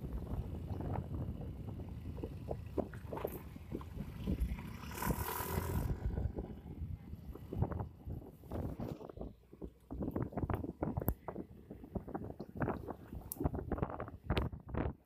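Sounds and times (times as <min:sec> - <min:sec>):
low engine rumble: 0:00.0 - 0:15.0
wind buffeting microphone: 0:00.0 - 0:15.0.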